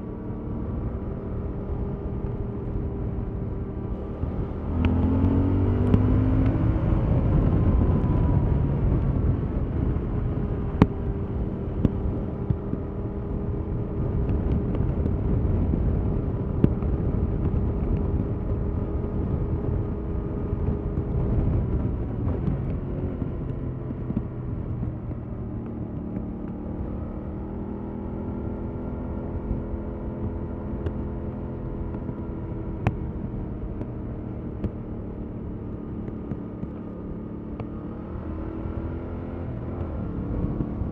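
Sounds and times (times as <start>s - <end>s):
low rumble of wind and road: 0.0s - 40.9s
motorcycle engine running: 0.0s - 40.9s.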